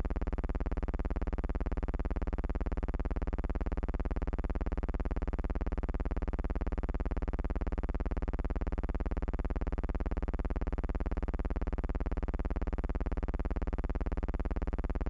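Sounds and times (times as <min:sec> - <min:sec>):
buzzing hum with flutter: 0:00.0 - 0:15.0.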